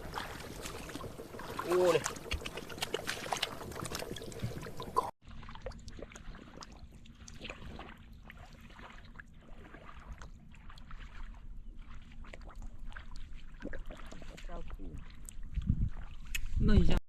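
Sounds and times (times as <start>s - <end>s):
small sharp splashes and drips: 0.0s - 16.6s
water splashing and trickling: 0.0s - 17.0s.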